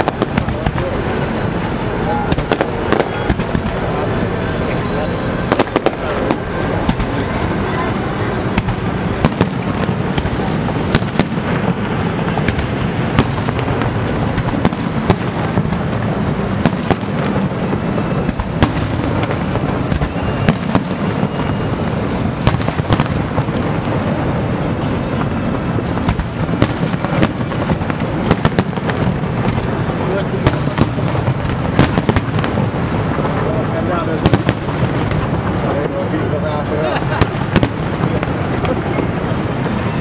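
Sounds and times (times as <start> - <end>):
din of booms: 0.0 - 40.0
fireworks bursting: 0.0 - 40.0
sharp bangs: 0.0 - 40.0.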